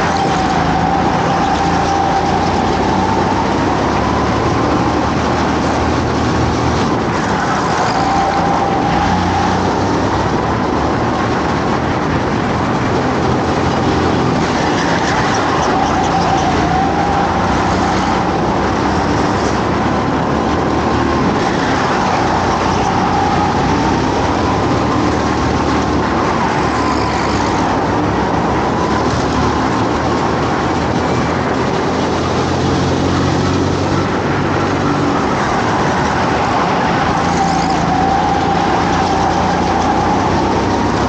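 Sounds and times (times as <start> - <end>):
constant rushing noise: 0.0 - 41.0.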